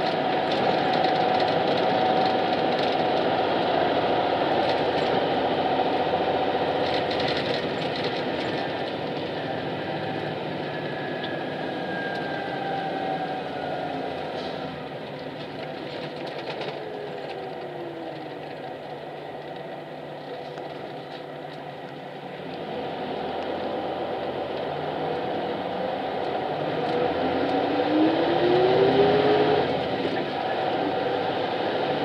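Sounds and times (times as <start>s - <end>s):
bus whine changing pitch: 0.0s - 15.8s, 16.5s - 32.0s
bus engine and road noise: 0.0s - 32.0s.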